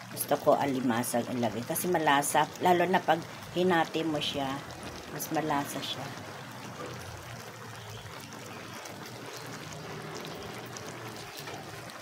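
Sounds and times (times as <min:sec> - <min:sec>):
sauce simmering in a pan: 0:00.0 - 0:12.0.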